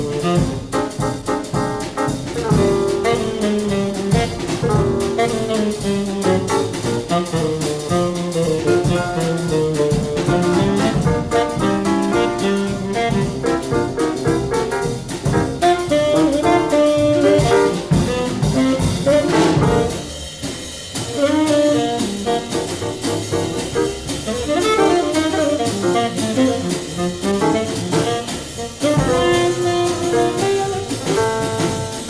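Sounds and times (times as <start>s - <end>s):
jazz bass and drums: 0.0s - 32.0s
tenor saxophone lead: 2.6s - 14.5s, 15.4s - 20.1s, 21.1s - 23.4s, 24.2s - 32.0s.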